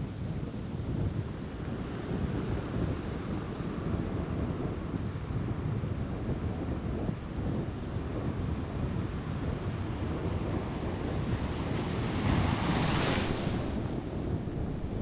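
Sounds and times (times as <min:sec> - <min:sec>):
waves: 0:00.0 - 0:15.0
wind buffeting microphone: 0:00.0 - 0:15.0.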